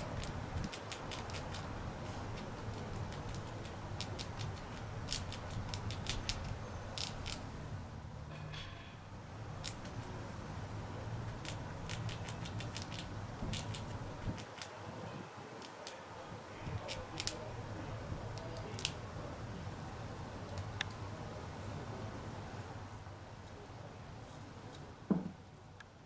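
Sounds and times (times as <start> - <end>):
squirrel gnawing a nut: 0.0 - 8.2, 9.2 - 22.7
low background rumble: 0.0 - 23.4.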